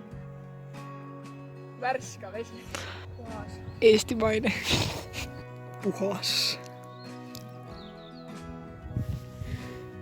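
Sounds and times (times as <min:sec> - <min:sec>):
background music sustained chords: 0:00.0 - 0:10.0.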